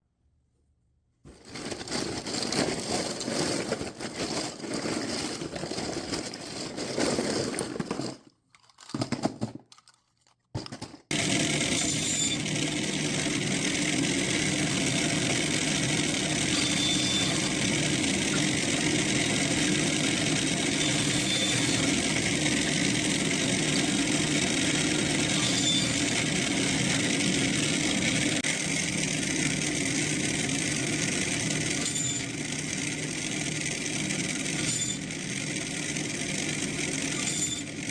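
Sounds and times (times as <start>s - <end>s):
uneven workshop noise: 0.1s - 37.9s
shop machine running steadily: 1.3s - 8.2s, 10.7s - 37.9s.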